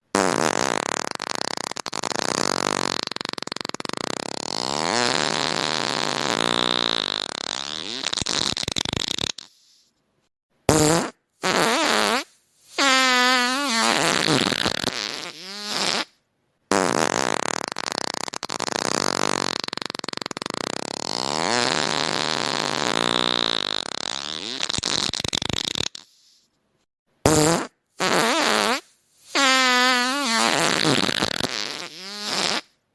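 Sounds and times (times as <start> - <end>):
fart sounds: 0.1 - 9.9, 10.7 - 26.5, 27.2 - 32.8.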